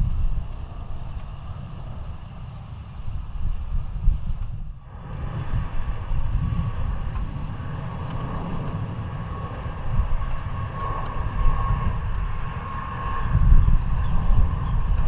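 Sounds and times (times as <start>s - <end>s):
jet engines whining: 0.0s - 15.0s
wind rumble on microphone: 0.0s - 15.0s.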